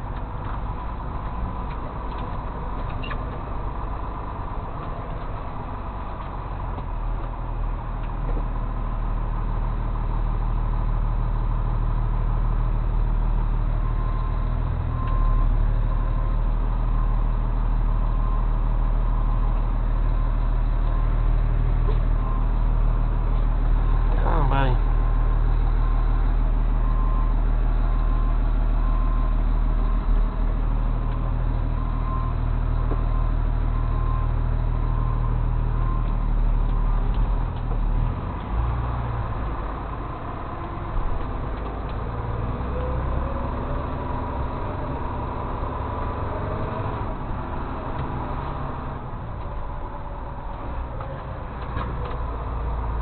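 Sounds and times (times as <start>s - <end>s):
truck engine humming: 0.0s - 53.0s.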